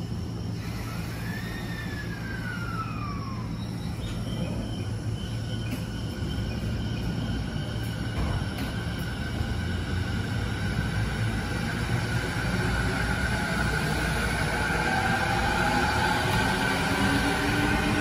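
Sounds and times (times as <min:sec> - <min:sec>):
wheels rumbling on rail: 0:00.0 - 0:18.0
electric train motor whine: 0:00.3 - 0:18.0.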